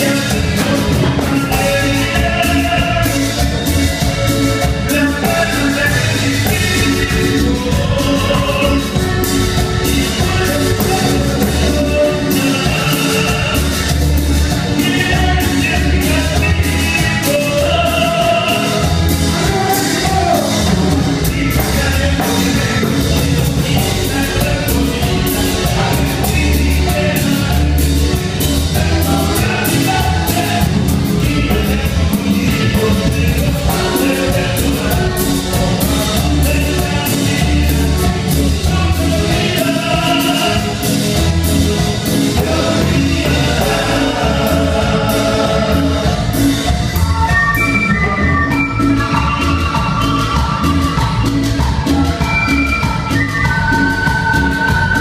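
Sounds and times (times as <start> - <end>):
live band playing cumbia: 0.0 - 55.0
steady drum beat: 0.0 - 55.0
voices singing: 0.0 - 55.0.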